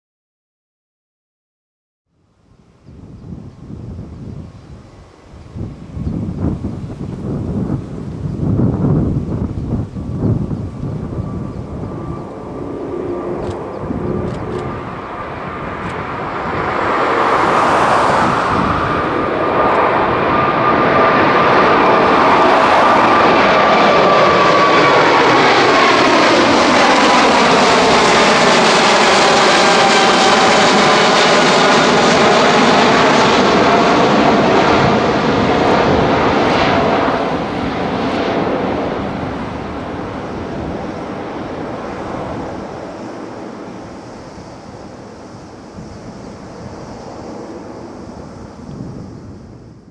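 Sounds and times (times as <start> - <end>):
jet engine whine: 2.2 - 49.9
jet engines roaring overhead: 2.7 - 49.9.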